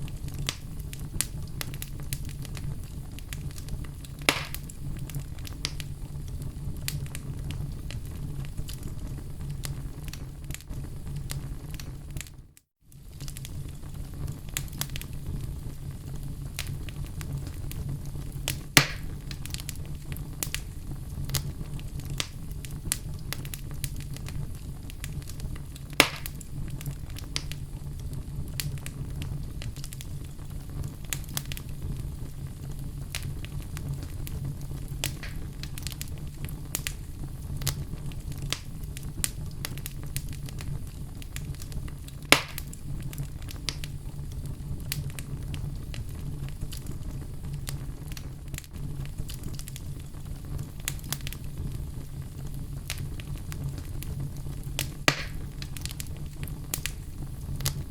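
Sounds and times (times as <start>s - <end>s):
sharp pops from burning logs: 0.0s - 12.3s, 13.0s - 15.4s, 16.6s - 57.9s
low rumble of flames: 0.0s - 57.9s
wood fire crackling: 0.0s - 57.9s.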